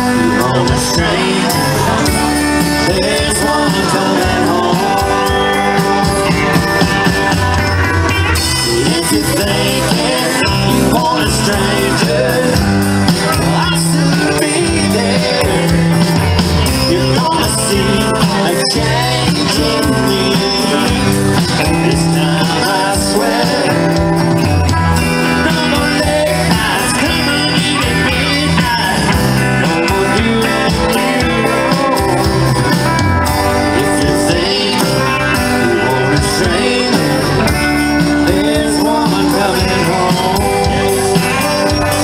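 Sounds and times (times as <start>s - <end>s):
bass: 0.0s - 42.0s
drum kit: 0.0s - 42.0s
electric guitars: 0.0s - 42.0s.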